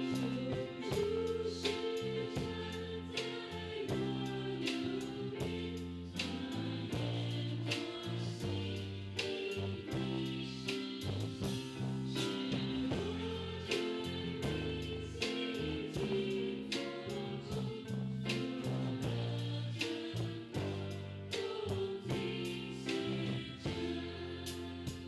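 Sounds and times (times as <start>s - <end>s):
bass guitar: 0.0s - 25.0s
drum kit: 0.0s - 25.0s
keyboard: 0.0s - 25.0s.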